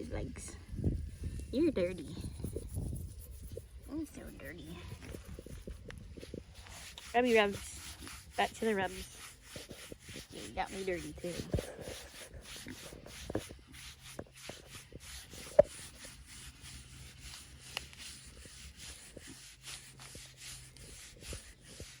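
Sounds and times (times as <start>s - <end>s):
hands rubbing bristly hide: 0.0s - 22.0s.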